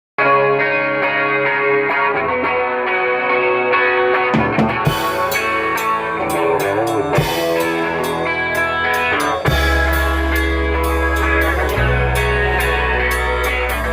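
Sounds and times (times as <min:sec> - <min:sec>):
drums and bass: 0:00.2 - 0:13.9
shimmering electric guitar: 0:00.2 - 0:13.9.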